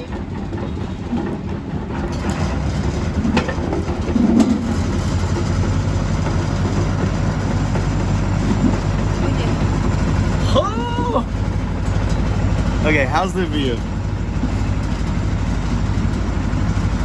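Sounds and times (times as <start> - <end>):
boat engine low hum: 0.0 - 17.0.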